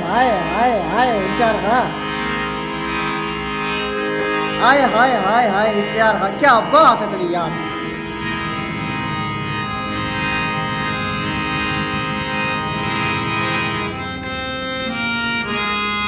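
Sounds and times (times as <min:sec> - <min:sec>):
instrumental music with held keyboard notes: 0:00.0 - 0:16.0.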